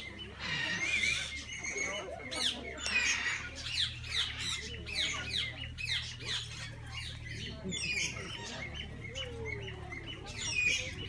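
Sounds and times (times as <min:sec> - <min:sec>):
parrots chirping and squawking: 0:00.0 - 0:11.0.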